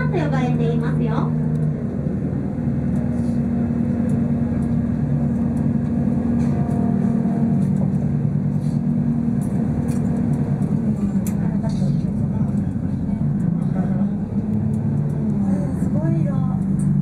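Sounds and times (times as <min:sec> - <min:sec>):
boat engine low hum: 0:00.0 - 0:17.0.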